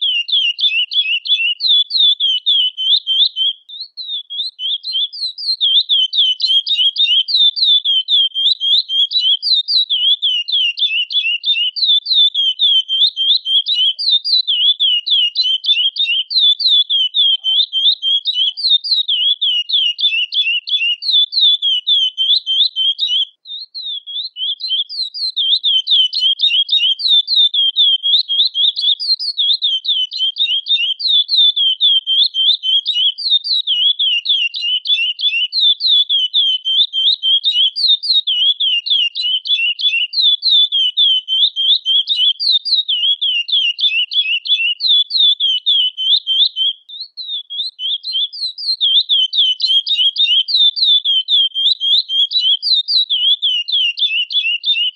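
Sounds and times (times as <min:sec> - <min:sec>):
finch high rapid chirps: 0:00.0 - 0:54.9.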